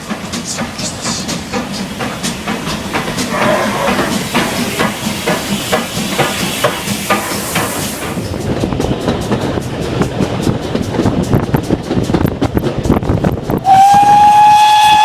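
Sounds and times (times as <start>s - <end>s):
wheels clanking over rail joints: 0.0s - 14.1s
steam hissing: 0.0s - 15.0s.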